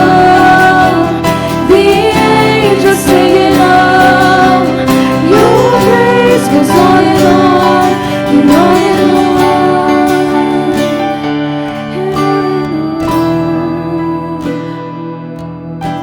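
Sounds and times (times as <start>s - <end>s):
person singing: 0.0s - 15.3s
acoustic guitar and instruments: 0.0s - 16.0s.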